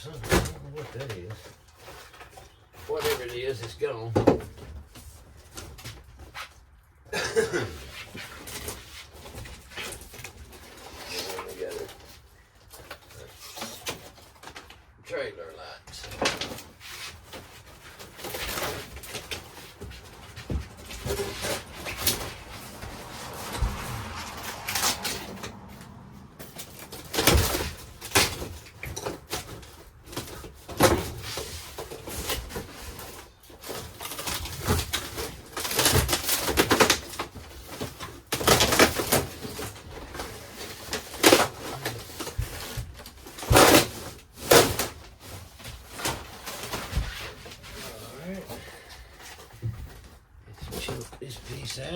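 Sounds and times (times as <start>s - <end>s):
wood paneling being pried out: 7.8s - 14.9s, 15.9s - 51.2s.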